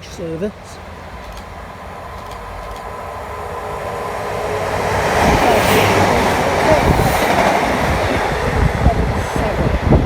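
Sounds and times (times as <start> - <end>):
train passing at speed: 0.0 - 10.0.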